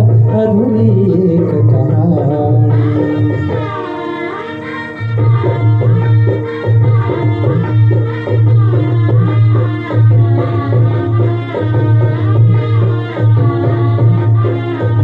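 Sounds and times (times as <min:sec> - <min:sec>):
drum rhythm: 0:00.0 - 0:15.0.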